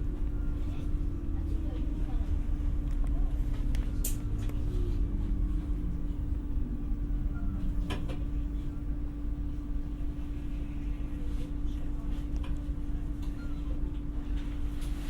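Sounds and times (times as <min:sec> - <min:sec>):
train cabin rumble and hum: 0:00.0 - 0:15.0.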